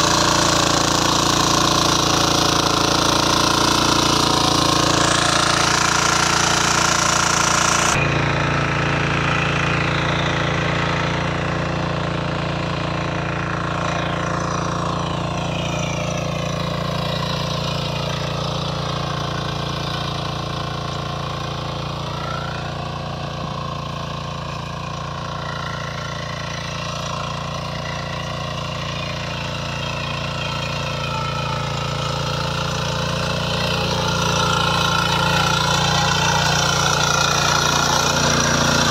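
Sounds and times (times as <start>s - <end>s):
power weeder engine running: 0.0s - 38.9s.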